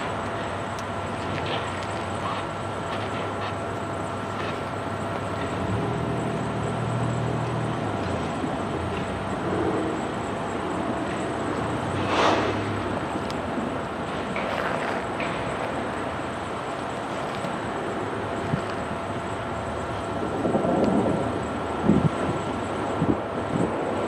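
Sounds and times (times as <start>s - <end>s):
vehicle engine hum: 0.0s - 24.0s.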